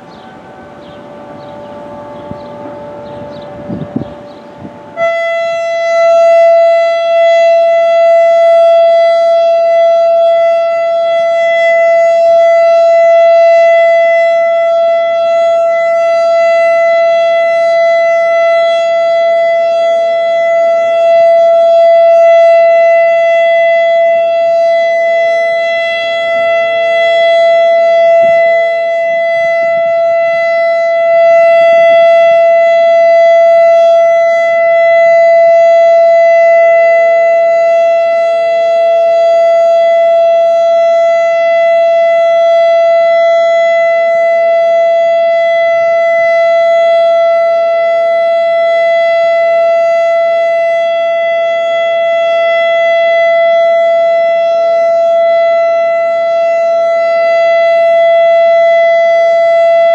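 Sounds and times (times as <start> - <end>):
electronic warning siren: 0.0 - 59.9.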